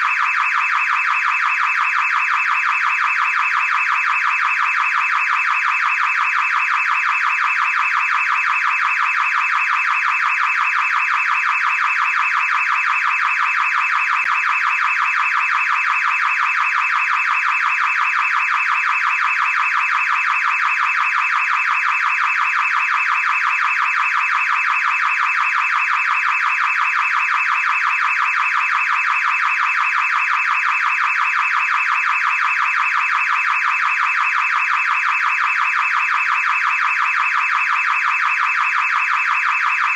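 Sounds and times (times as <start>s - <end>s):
car alarm siren warbling: 0.0s - 39.9s.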